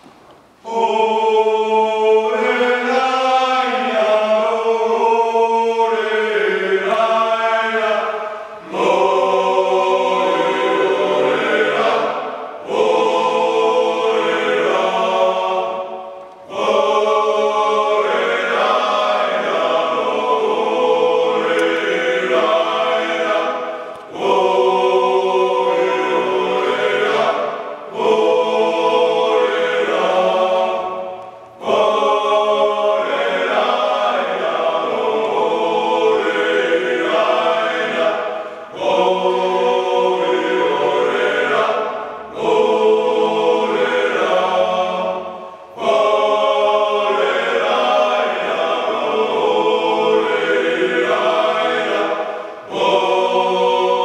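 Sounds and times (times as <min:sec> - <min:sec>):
male choir singing: 0:00.6 - 0:54.0.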